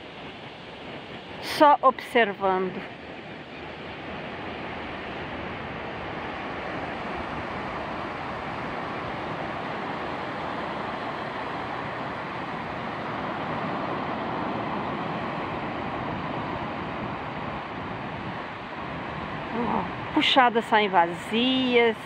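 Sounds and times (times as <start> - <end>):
ocean surf washing onto beach: 0.0 - 22.0.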